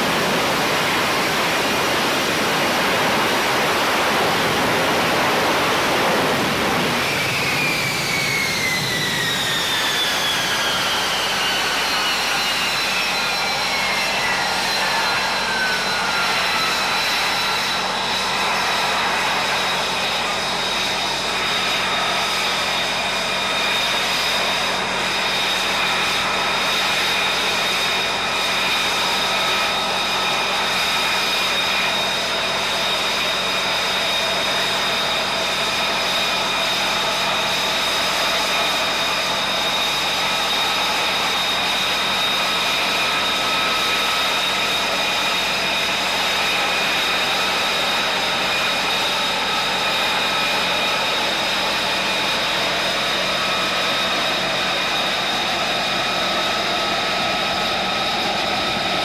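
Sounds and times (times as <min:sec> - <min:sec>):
high engine whine: 0:00.0 - 0:59.0
jet engine running at low power: 0:00.0 - 0:59.0.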